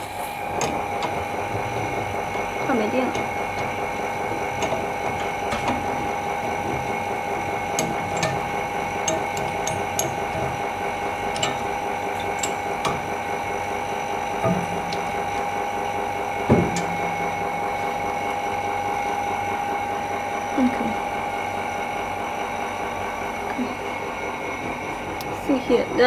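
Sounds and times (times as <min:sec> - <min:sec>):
electric machine hum: 0:00.0 - 0:26.0.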